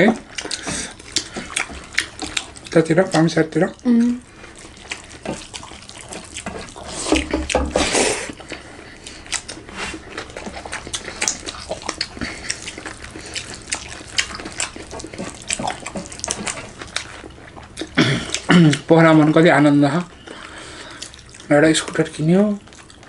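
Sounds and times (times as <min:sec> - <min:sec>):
wet chewing and smacking: 0:00.0 - 0:23.0.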